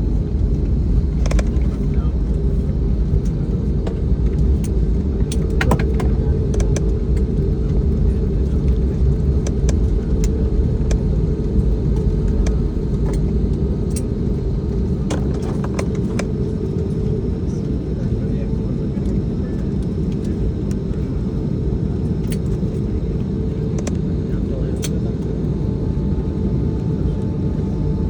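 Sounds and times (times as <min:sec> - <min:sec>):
low rumble of engines: 0:00.0 - 0:28.0.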